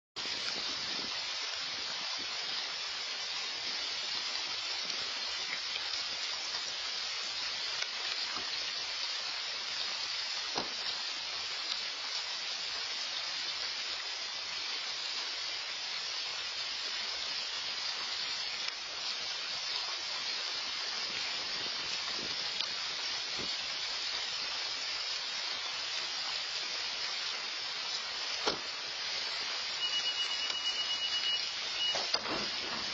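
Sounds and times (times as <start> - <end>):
steady rain falling: 0.2 - 32.9.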